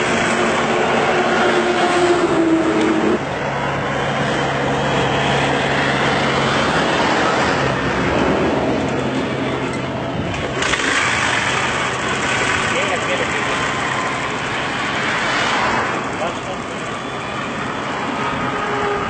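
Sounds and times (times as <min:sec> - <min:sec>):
engine humming: 0:00.0 - 0:19.0
road traffic noise: 0:00.0 - 0:19.0.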